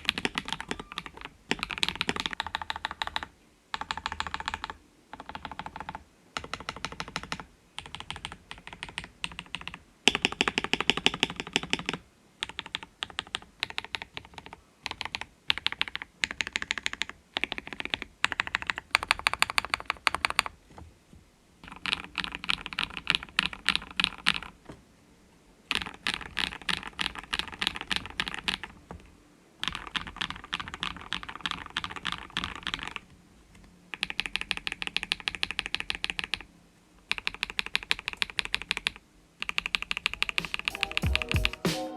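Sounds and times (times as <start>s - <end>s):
typing on a mechanical keyboard: 0.0s - 20.6s, 21.6s - 24.6s, 25.7s - 28.9s, 29.6s - 33.1s, 33.9s - 41.6s.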